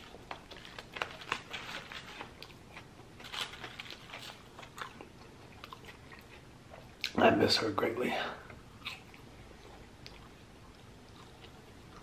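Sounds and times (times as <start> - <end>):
person chewing food: 0.0 - 7.2, 8.4 - 12.0.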